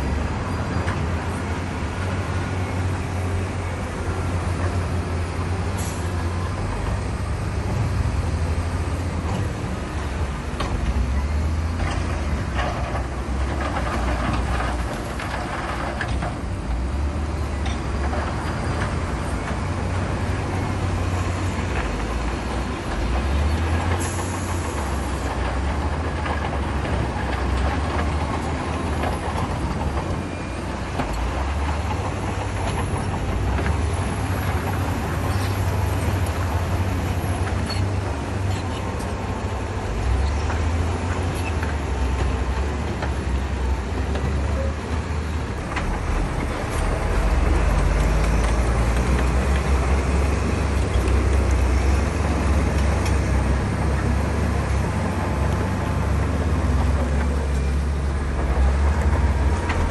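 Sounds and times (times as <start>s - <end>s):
heavy diesel machinery engine rumble: 0.0s - 59.9s.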